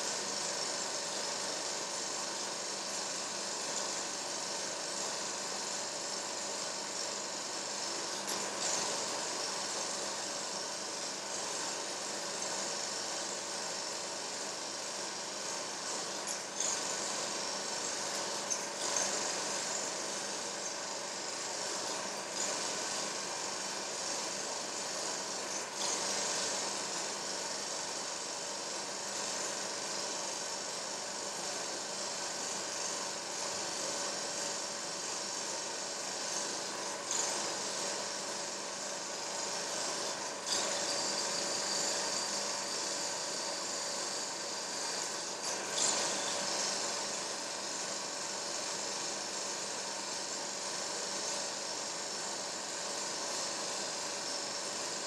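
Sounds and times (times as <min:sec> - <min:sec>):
mechanical whirring hum: 0:00.0 - 0:55.0.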